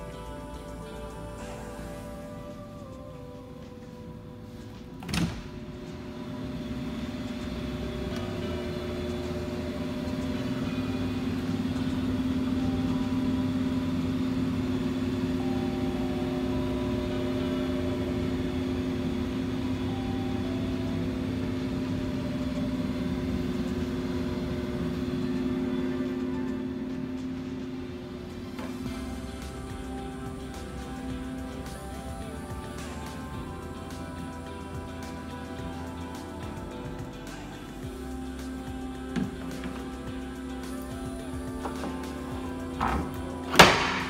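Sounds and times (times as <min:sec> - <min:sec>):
furnace humming: 0:00.0 - 0:44.0.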